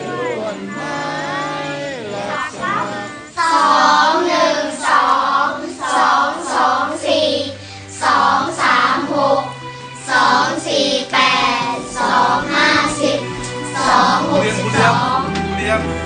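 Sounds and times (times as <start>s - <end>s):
children singing: 0.0s - 15.9s
music with low held note: 0.0s - 16.0s.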